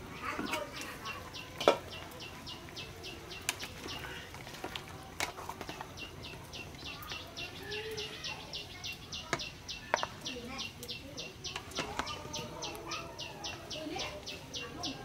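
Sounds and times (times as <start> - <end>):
ladle stirring soup in pot: 0.1 - 15.0.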